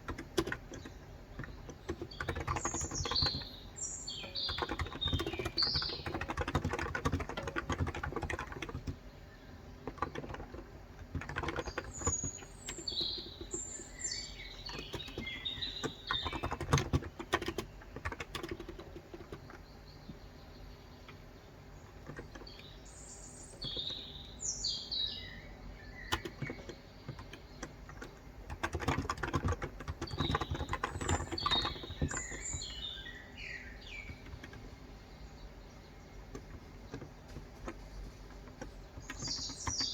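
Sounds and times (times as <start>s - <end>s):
keyboard typing: 0.0s - 9.0s, 9.7s - 19.7s, 21.9s - 22.8s, 23.6s - 24.2s, 26.0s - 33.1s, 33.9s - 34.8s, 36.2s - 39.9s
birds chirping: 0.0s - 39.9s.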